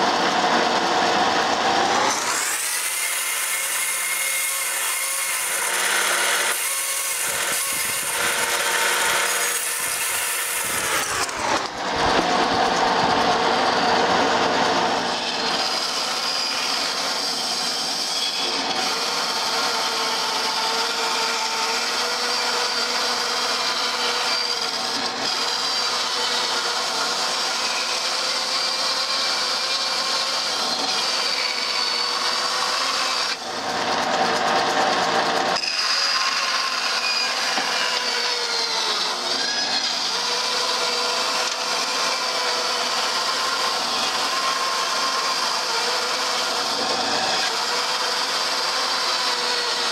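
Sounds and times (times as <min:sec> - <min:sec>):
bandsaw cutting wood: 0:00.0 - 0:49.9.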